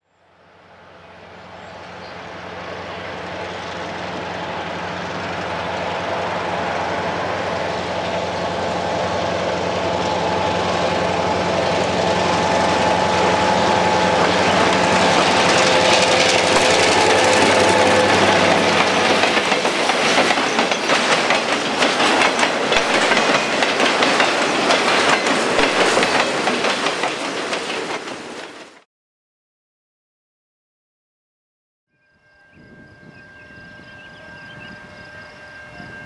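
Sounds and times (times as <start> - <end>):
diesel locomotive engine drone: 0.1 - 28.8, 32.0 - 36.0
train wheel and rail noise: 0.1 - 28.8, 32.1 - 36.0.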